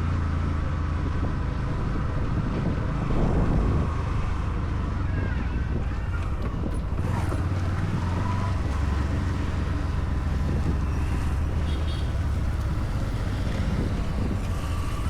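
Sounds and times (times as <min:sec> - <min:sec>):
vehicle engine running: 0:00.0 - 0:15.0
wind noise on microphone: 0:00.1 - 0:15.0.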